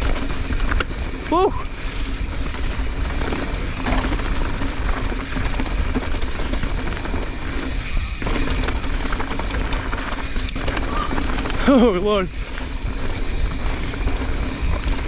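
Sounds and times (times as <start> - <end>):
bike clicks and rattles: 0.0 - 15.0
bike tyres rolling on dirt: 0.0 - 15.0.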